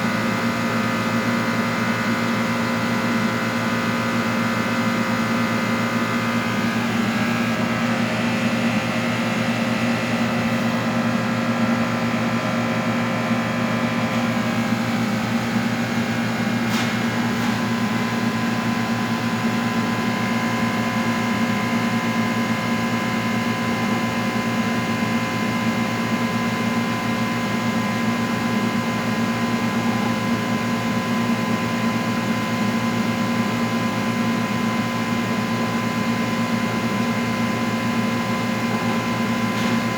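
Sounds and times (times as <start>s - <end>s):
coating equipment humming: 0.0s - 39.9s.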